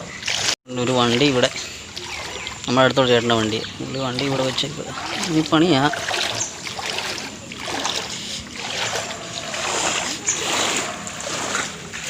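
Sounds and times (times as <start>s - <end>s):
legs wading through floodwater: 0.0s - 12.0s.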